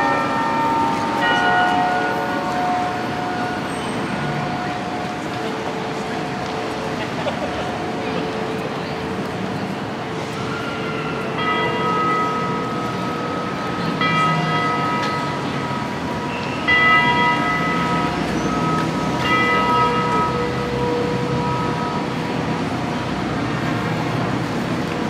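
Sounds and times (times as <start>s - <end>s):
street background noise: 0.0s - 25.0s.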